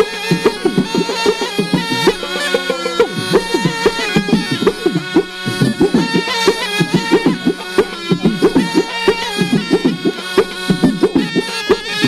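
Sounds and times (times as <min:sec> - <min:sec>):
hand drum strokes: 0:00.0 - 0:12.0
reedy gourd pipe melody: 0:00.0 - 0:12.0.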